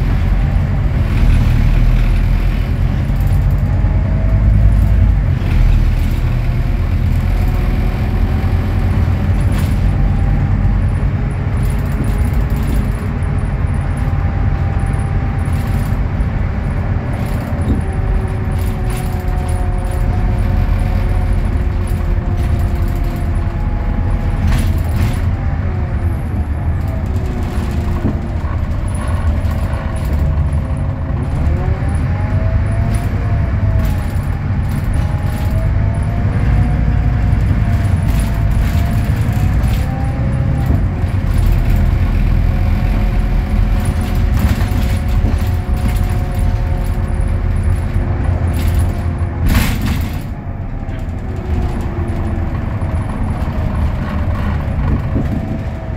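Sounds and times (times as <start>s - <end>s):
bus diesel engine rumbling: 0.0s - 55.9s.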